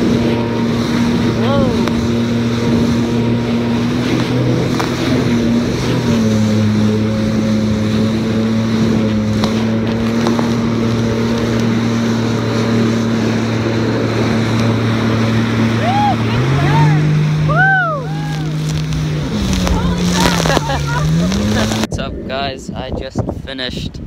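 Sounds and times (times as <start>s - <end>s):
water rushing: 0.0s - 22.3s
jet ski engine droning: 0.0s - 22.4s
wind buffeting microphone: 0.0s - 24.0s.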